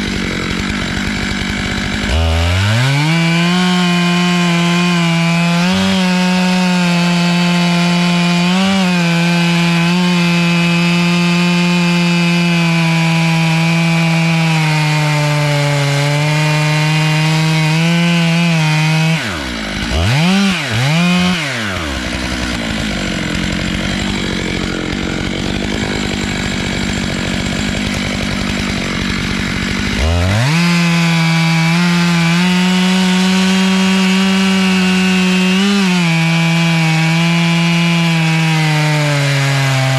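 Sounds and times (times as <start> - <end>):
chainsaw cutting log at full throttle: 0.0 - 39.9
chainsaw idling: 0.0 - 39.9.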